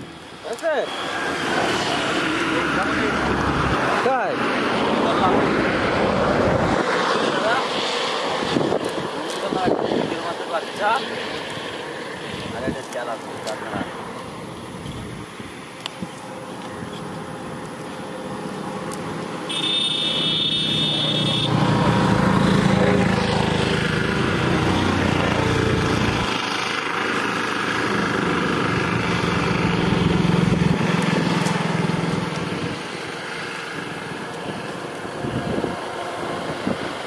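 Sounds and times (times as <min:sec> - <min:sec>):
small engine running: 0:07.3 - 0:37.0.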